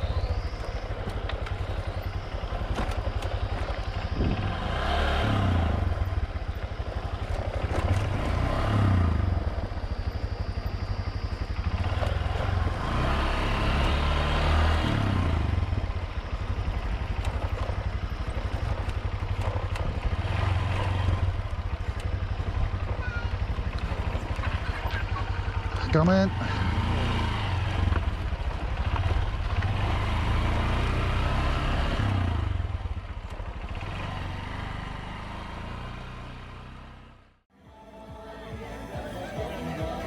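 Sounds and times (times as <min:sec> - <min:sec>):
motorbike engine revving: 0:00.0 - 0:40.0.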